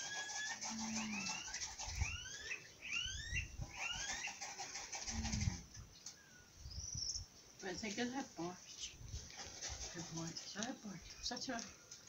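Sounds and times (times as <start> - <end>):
birds chirping: 0.0 - 9.0, 9.9 - 12.0.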